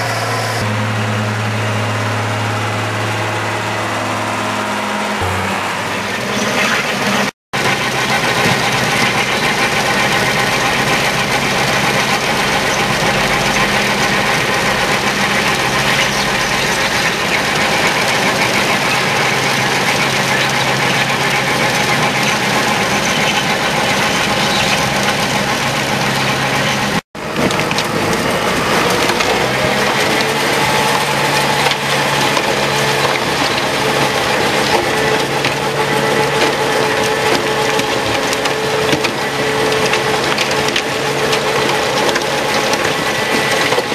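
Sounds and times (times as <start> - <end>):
tractor engine under load: 0.0 - 43.9
stone crusher clatter: 6.1 - 43.9.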